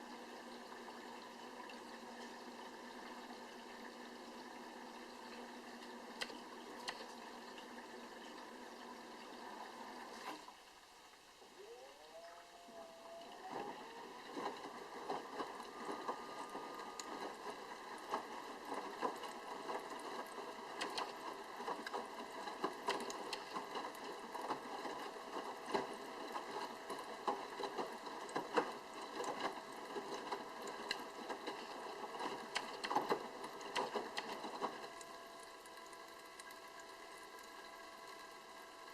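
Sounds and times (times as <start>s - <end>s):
washing machine motor whine: 0.0s - 38.9s.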